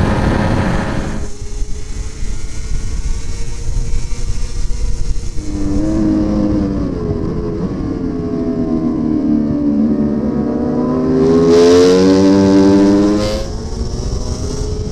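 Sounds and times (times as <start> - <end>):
motorcycle engine at speed: 0.0 - 14.9
wind noise: 0.0 - 14.9.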